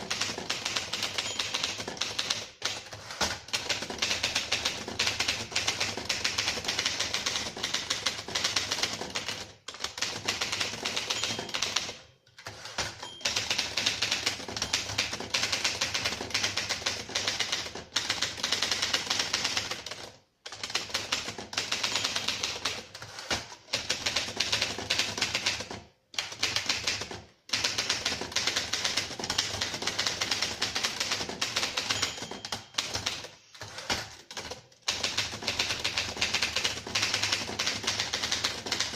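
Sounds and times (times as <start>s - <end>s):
typewriter typing: 0.0s - 38.9s.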